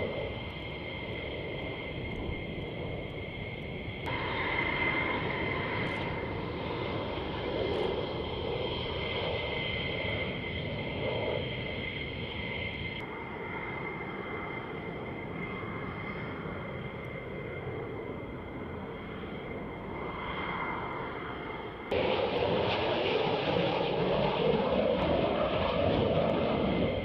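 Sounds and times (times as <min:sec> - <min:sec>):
jet engines roaring with high whine: 0:00.0 - 0:27.0.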